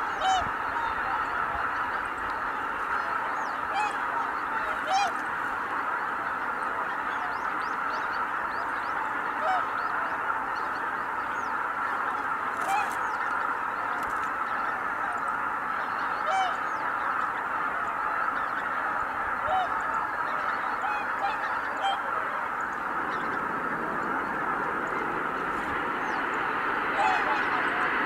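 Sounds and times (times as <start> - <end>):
flock of geese honking: 0.0 - 28.0.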